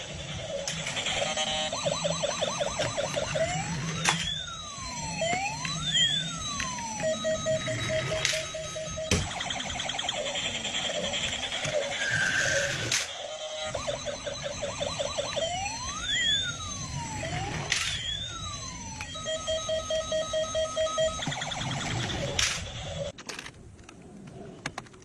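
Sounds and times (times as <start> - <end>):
electronic siren wailing: 0.0 - 23.1.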